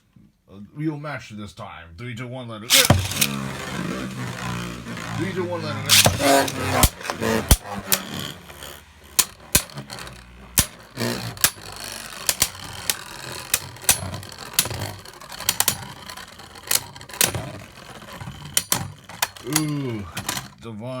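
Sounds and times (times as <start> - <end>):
spinning tips scraping: 2.7 - 20.6
spinning tops clacking: 2.7 - 20.6.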